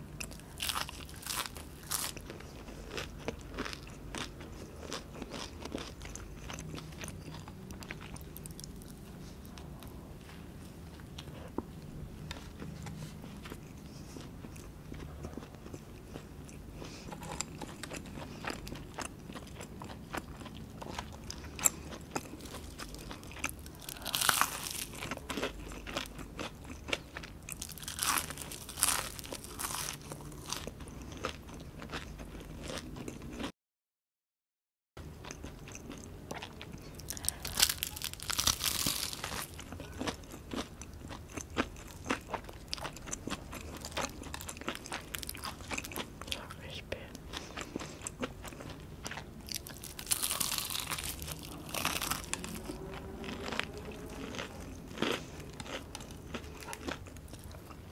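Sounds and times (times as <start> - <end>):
crunching onion rings: 0.2 - 9.9, 13.2 - 33.5, 35.2 - 57.9.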